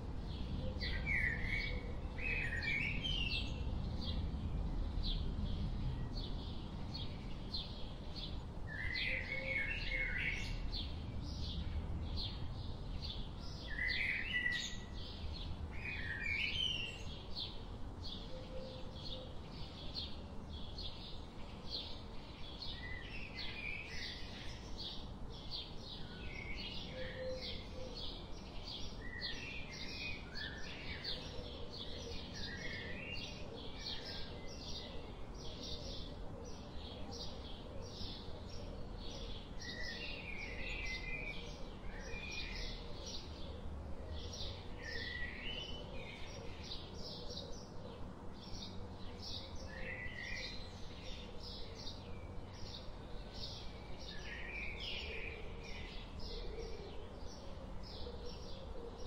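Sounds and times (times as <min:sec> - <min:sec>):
songbirds chirping and warbling: 0:00.0 - 0:59.0.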